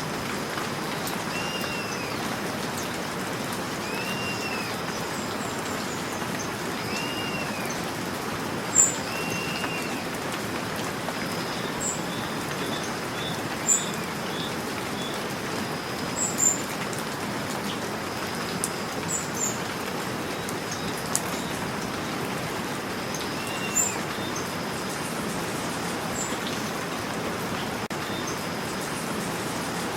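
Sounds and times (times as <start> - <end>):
steady rain falling: 0.0 - 29.9
birds chirping: 1.0 - 29.1.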